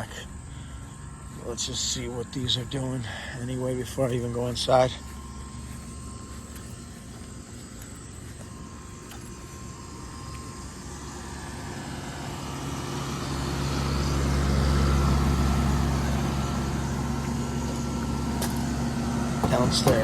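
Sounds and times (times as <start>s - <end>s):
air conditioner compressor hum: 0.0s - 20.0s
fan rushing: 0.0s - 20.0s.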